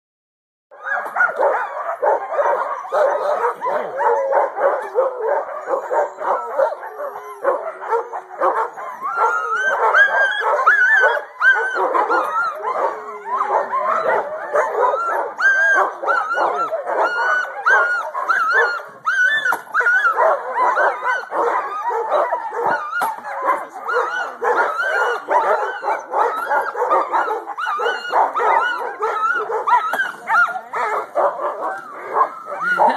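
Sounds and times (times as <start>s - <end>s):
dogs yelping: 0.7s - 32.9s
sled dogs barking and howling: 0.7s - 32.9s.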